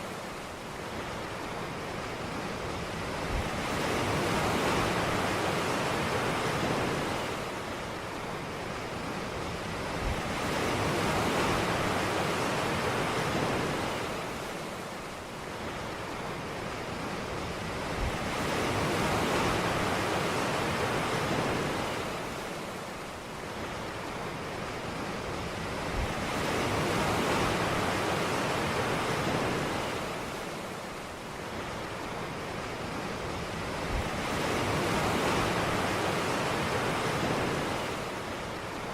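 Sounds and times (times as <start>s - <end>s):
ocean waves washing onto beach: 0.0s - 38.9s.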